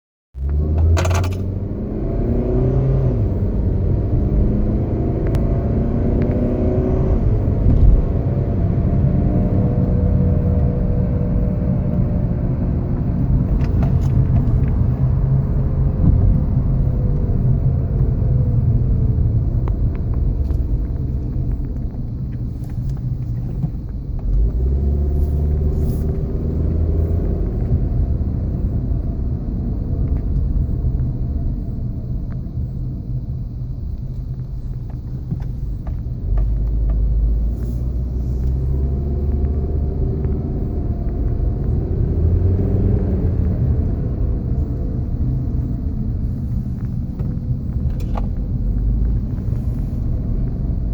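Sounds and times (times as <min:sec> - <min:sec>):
car driving rumble: 0:00.4 - 0:50.9.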